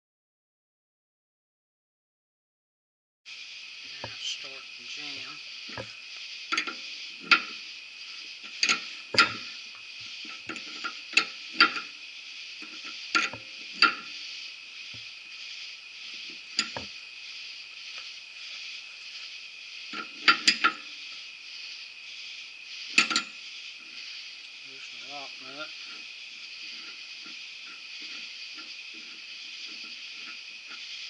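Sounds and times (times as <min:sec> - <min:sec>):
steady high hiss: 0:03.3 - 0:31.0.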